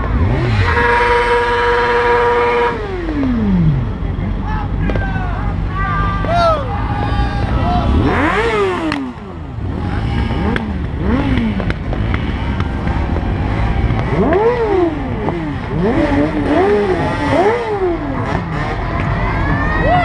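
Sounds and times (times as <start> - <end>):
low engine rumble: 0.0 - 20.0
motorcycle engines revving: 0.0 - 20.0.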